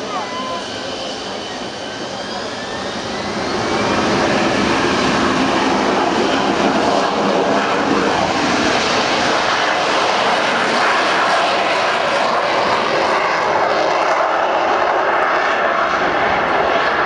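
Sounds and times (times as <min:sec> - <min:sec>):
jet engine roaring at takeoff: 0:00.0 - 0:17.0.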